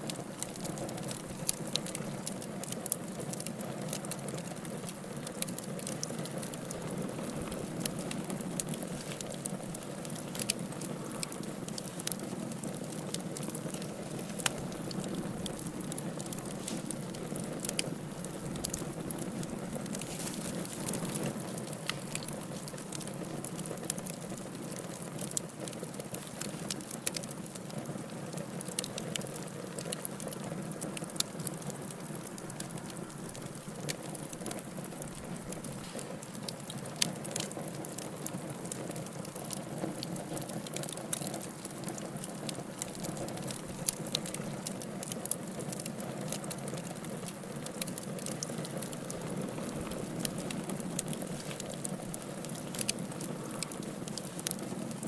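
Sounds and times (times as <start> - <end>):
fire crackling and popping: 0.0 - 55.0
wood fire burning: 0.0 - 55.0.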